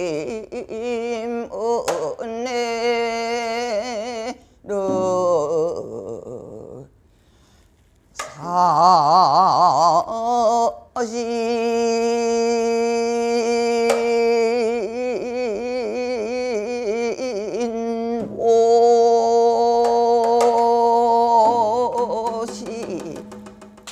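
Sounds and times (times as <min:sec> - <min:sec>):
woman singing long held notes: 0:00.0 - 0:06.9, 0:08.3 - 0:23.4.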